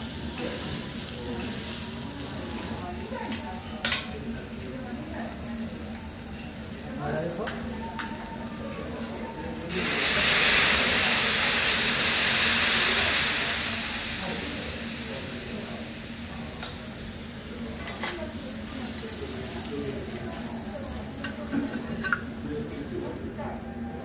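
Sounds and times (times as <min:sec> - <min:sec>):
food sizzling on griddle: 0:00.0 - 0:23.1.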